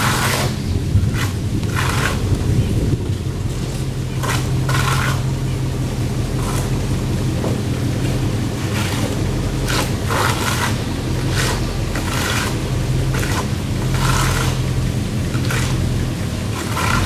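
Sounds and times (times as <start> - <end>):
hand tool scraping stucco wall: 0.0 - 17.0
low machine hum: 0.0 - 17.0.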